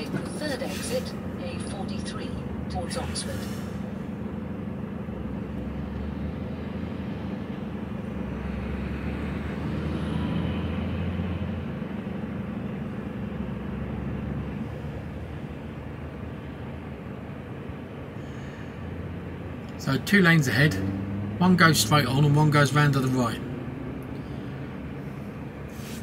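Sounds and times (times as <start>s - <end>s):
diesel engine idling: 0.0s - 26.0s
road traffic passing: 0.0s - 26.0s.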